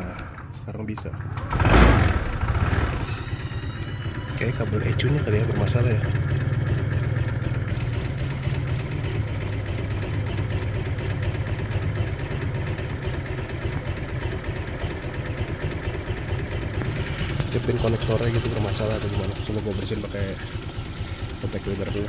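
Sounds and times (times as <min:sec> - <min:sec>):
scooter engine idling: 0:01.1 - 0:22.0.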